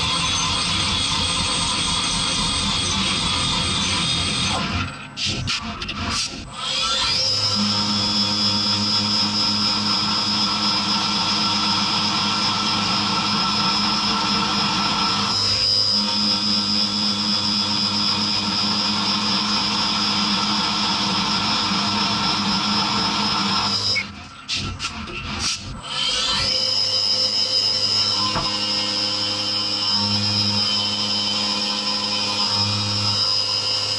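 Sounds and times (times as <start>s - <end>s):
milling machine cutting metal: 0.0s - 33.9s.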